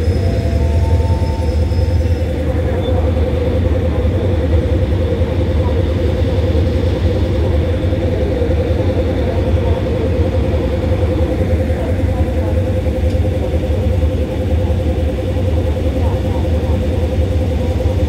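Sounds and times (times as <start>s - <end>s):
locomotive idling rumble: 0.0s - 18.0s.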